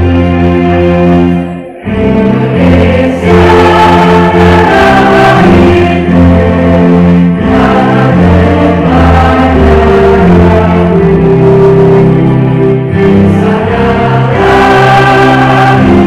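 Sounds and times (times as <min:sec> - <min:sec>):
group singing worship song: 0:00.0 - 0:16.0
instrumental backing with bass: 0:00.0 - 0:16.0.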